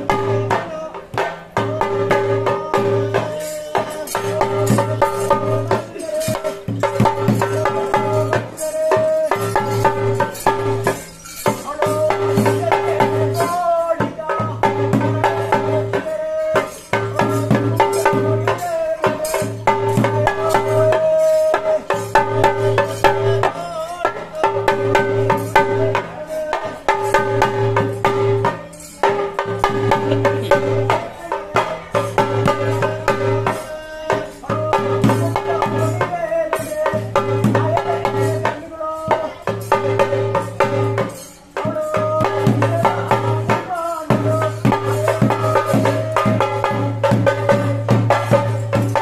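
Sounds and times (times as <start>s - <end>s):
drum struck with sticks: 0.0s - 49.0s.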